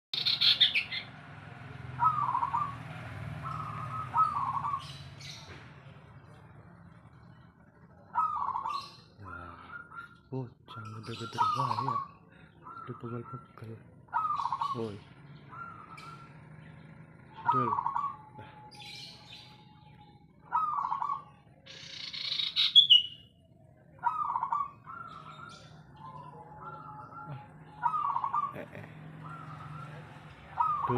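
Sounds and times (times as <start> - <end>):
dove cooing trills: 1.8 - 5.6, 7.3 - 30.9.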